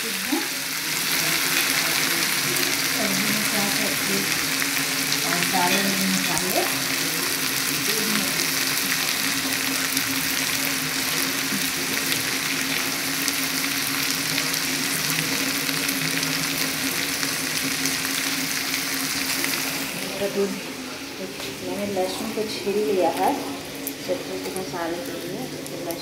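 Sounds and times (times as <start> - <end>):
potatoes and onions frying: 0.0 - 26.0.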